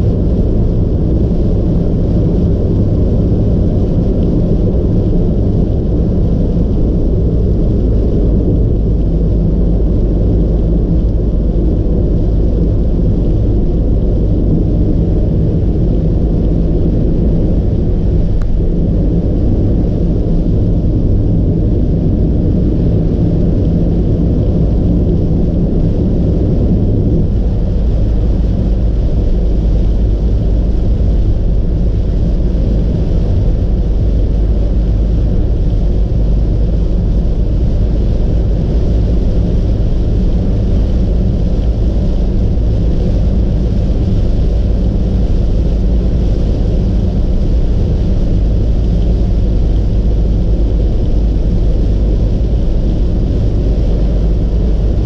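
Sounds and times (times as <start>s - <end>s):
engine drone: 0.0s - 55.0s
faint rain: 2.8s - 55.0s.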